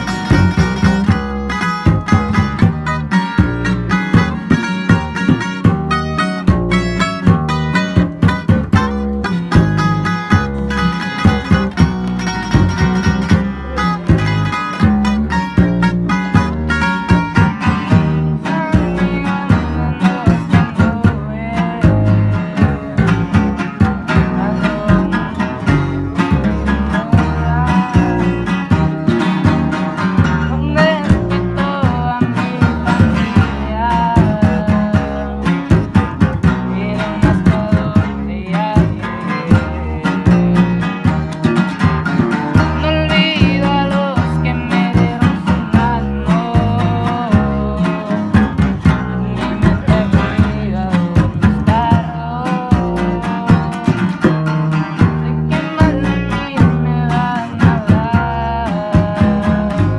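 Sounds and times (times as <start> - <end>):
acoustic guitars picked and strummed: 0.0 - 59.9
rhythmic bass line: 0.0 - 59.9.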